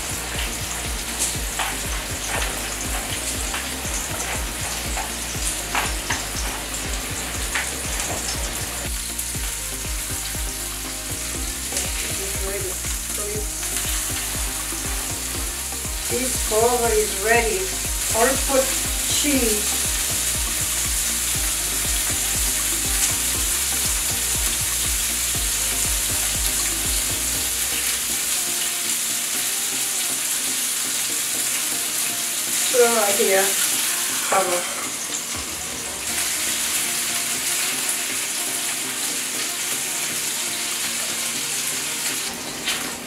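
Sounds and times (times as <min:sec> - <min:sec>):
burger patties sizzling: 0:00.0 - 0:43.0.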